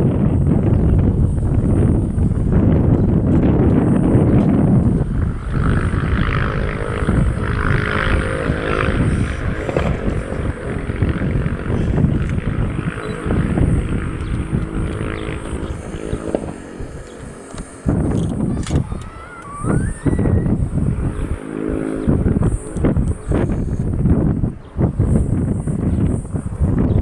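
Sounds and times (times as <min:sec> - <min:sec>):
faint whining tone: 0:00.0 - 0:27.0
jet engines rumbling: 0:00.0 - 0:27.0.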